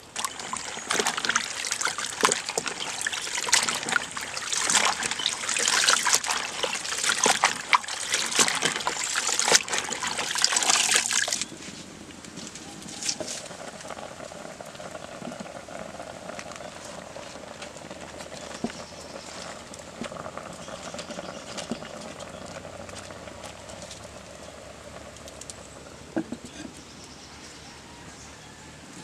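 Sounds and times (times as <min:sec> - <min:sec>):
broth simmering and bubbling: 0:00.0 - 0:28.9.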